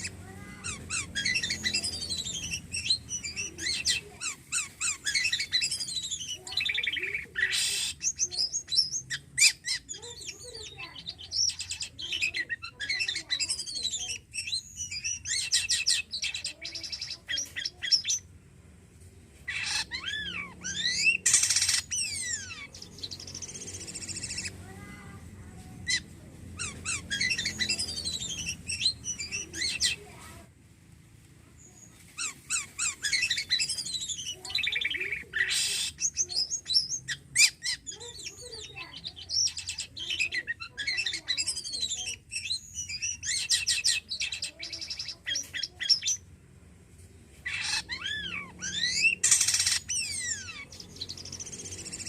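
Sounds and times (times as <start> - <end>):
bird singing chatter and whistles: 0.0 - 18.3, 19.5 - 24.8, 25.8 - 30.4, 31.6 - 46.3, 47.5 - 52.0.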